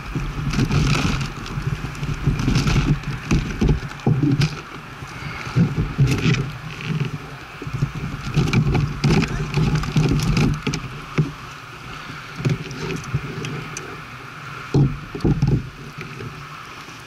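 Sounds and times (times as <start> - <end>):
paddle splashing in water: 0.0 - 17.0.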